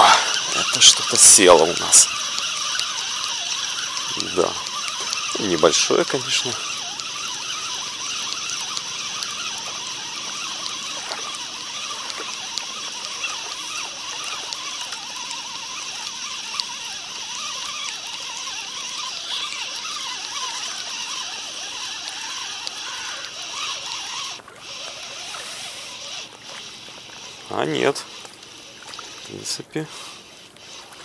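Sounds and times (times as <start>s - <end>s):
spinning fishing reel winding: 0.0s - 31.0s.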